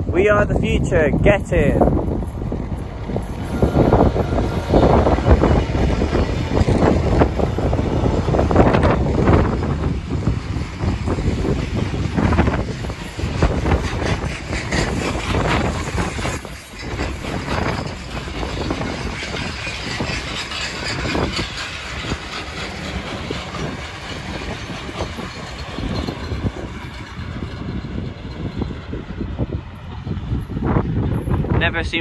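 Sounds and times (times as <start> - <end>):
freight train wheels clattering: 1.8 - 31.6.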